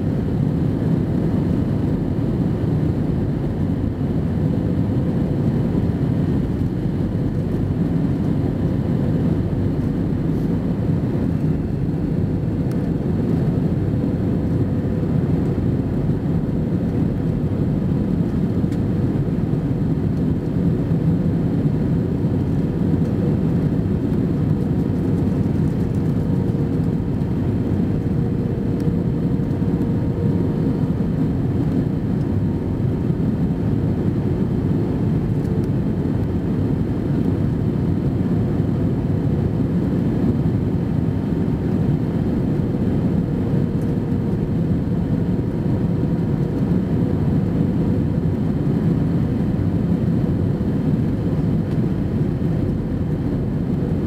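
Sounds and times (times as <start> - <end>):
airliner cabin rumble: 0.0 - 54.0
faint steady hum: 0.0 - 54.0.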